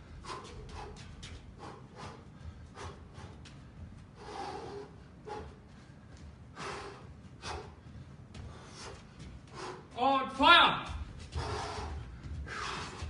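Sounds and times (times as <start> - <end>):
sharp forced breaths: 0.0 - 10.0, 11.2 - 13.0.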